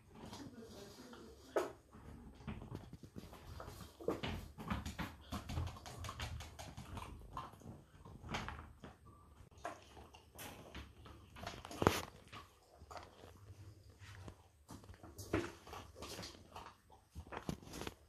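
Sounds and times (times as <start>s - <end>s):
puppies crunching kibble: 1.9s - 18.0s.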